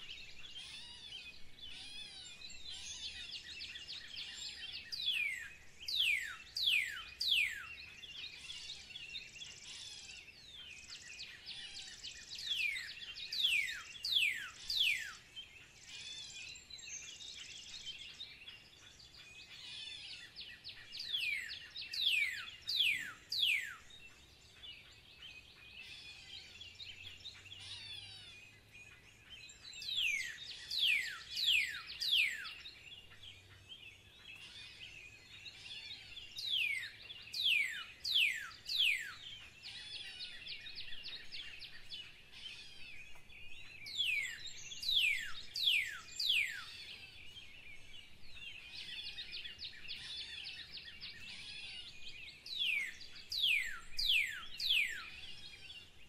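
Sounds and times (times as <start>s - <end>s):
birds twittering: 0.0s - 56.0s.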